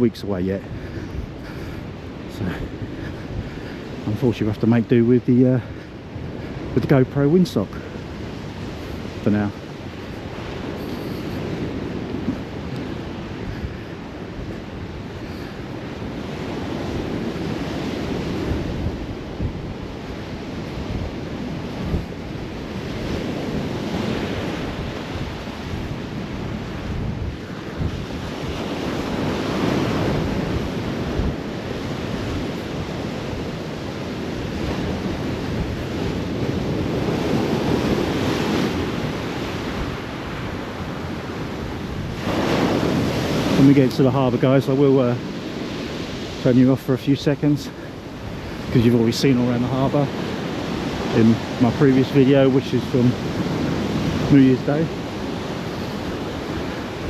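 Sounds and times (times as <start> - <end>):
rough surf breaking: 0.0 - 57.0
wind buffeting microphone: 0.0 - 57.0.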